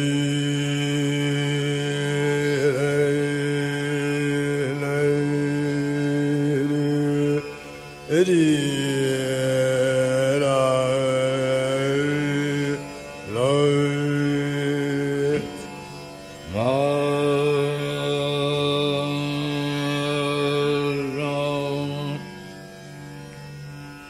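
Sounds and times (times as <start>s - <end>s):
man singing long held notes: 0.0s - 22.5s.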